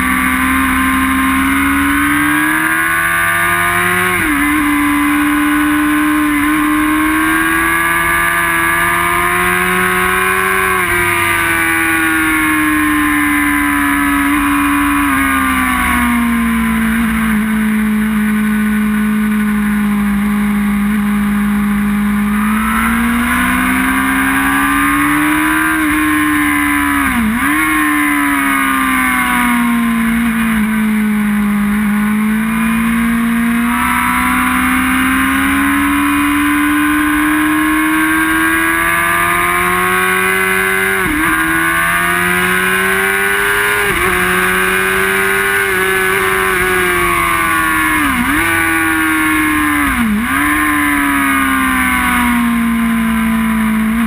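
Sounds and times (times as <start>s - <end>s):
gear changes: 0.0s - 54.0s
sport bike engine at speed: 0.0s - 54.0s.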